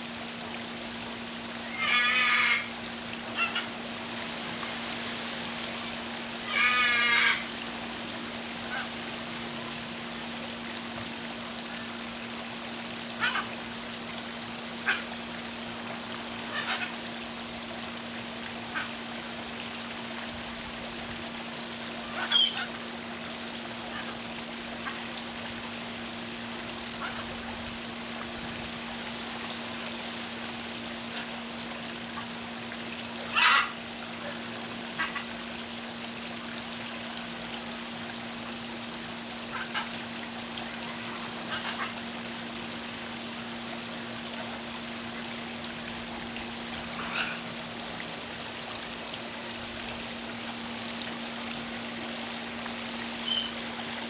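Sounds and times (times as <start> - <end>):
fountain water trickling: 0.0 - 54.0.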